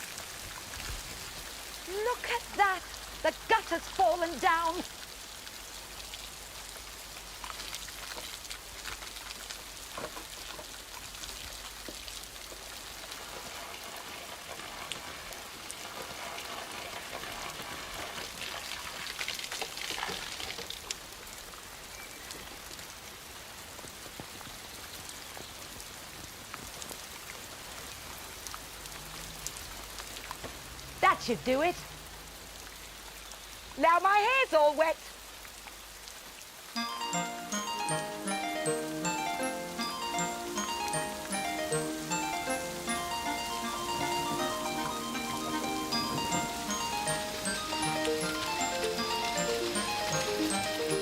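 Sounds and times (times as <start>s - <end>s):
rain pattering: 0.0s - 51.0s.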